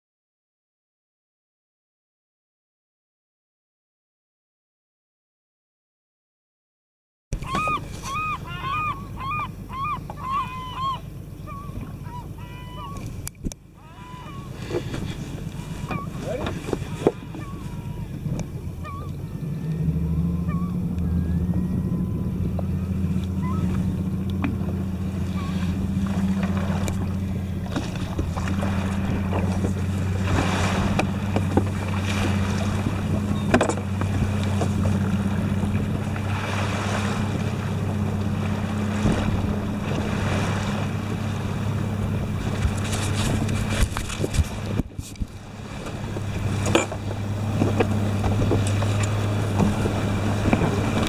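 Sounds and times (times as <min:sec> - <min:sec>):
boat engine humming: 0:07.3 - 0:51.0
wind: 0:07.3 - 0:51.0
water washing against hull: 0:07.4 - 0:51.0.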